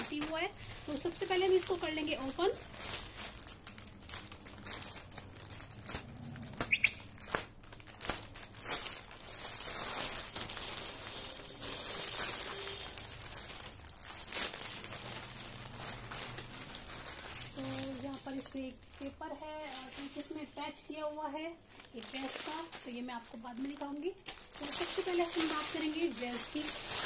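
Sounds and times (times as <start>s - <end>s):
plastic packaging crinkling: 0.0s - 27.0s.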